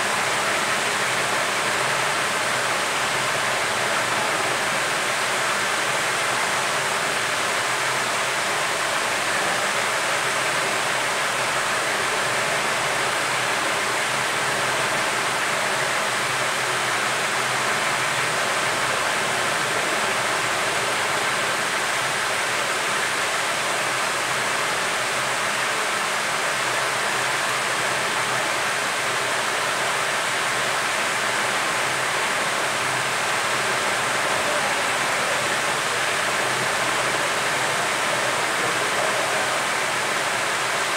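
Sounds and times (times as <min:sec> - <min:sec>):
faint steady whine: 0:00.0 - 0:40.9
hot air blower hissing: 0:00.0 - 0:40.9.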